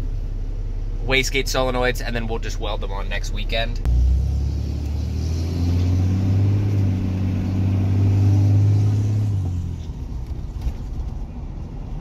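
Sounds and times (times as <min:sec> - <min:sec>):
diesel engine drone: 0:00.0 - 0:12.0.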